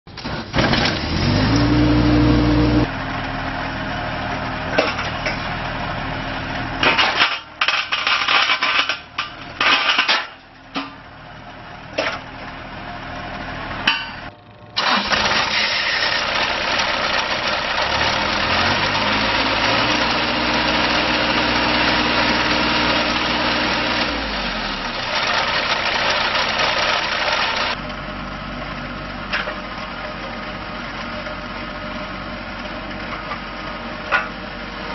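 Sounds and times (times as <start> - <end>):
diesel engine starting and revving: 0.1 - 34.9.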